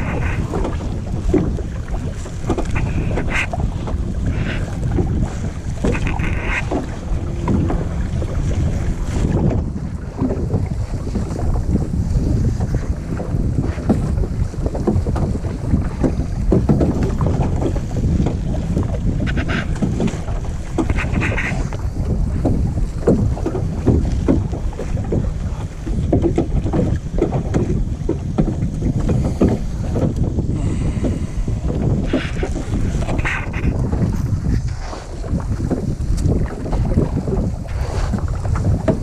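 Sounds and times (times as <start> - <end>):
water splashing against kayak: 0.0 - 39.0
wind buffeting microphone: 0.0 - 39.0.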